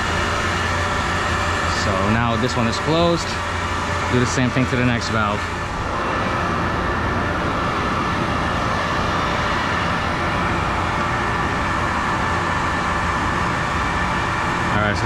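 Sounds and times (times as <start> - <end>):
water pumps running: 0.0 - 15.0.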